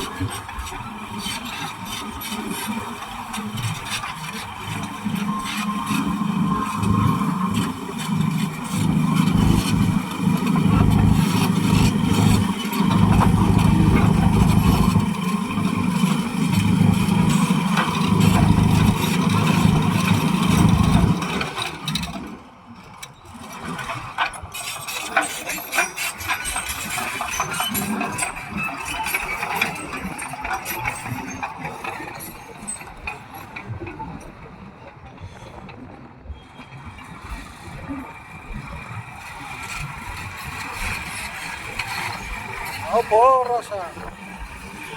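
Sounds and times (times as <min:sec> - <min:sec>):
bulldozer diesel engine running: 0:00.0 - 0:22.7, 0:23.4 - 0:33.8, 0:39.0 - 0:44.9.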